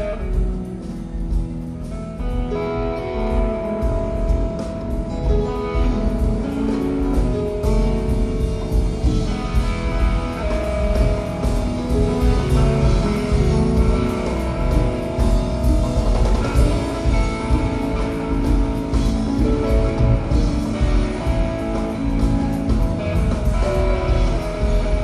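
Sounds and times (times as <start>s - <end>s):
bass guitar: 0.0s - 25.0s
drums with cymbals: 0.0s - 25.0s
electric guitar melody: 0.0s - 25.0s.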